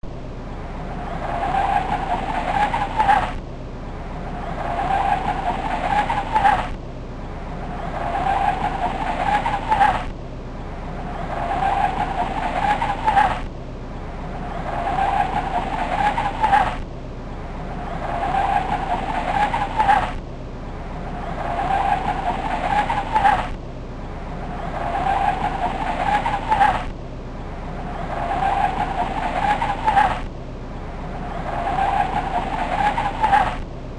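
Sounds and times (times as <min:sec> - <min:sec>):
car engine and exhaust revving: 0:00.0 - 0:33.9.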